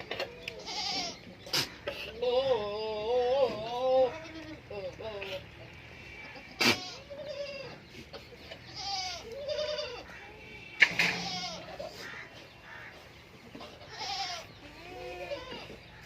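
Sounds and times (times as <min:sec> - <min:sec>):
goats bleating: 0:00.0 - 0:12.9, 0:13.6 - 0:16.0.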